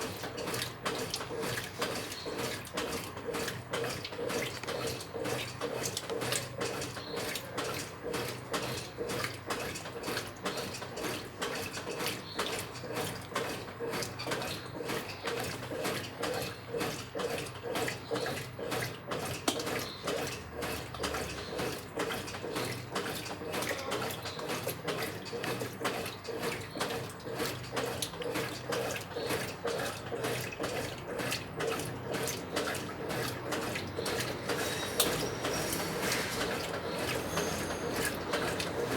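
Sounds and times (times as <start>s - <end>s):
washing machine motor hum: 0.0s - 38.9s
water sloshing in washing machine: 0.0s - 38.9s.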